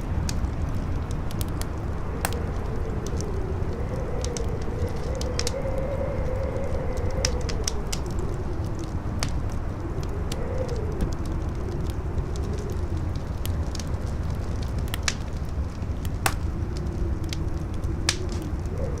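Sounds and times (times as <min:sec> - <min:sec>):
howling wind: 0:00.0 - 0:19.0
wood fire crackling: 0:00.0 - 0:19.0.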